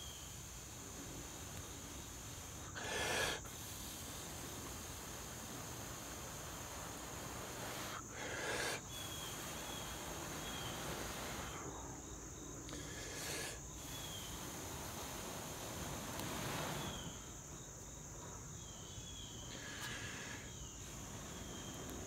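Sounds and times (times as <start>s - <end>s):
rushes of air-like noise: 0.0s - 18.5s, 19.4s - 22.0s
crickets chirring: 0.0s - 22.0s.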